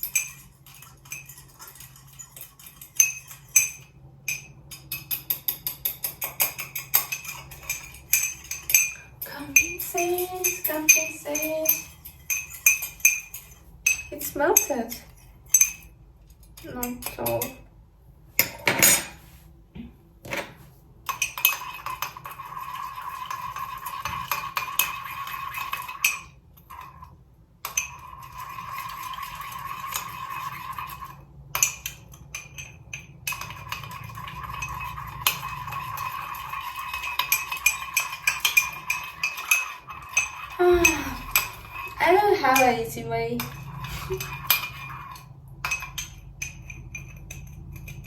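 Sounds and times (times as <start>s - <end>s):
metal spoon stirring in a cup: 0.0s - 17.7s, 21.0s - 48.0s.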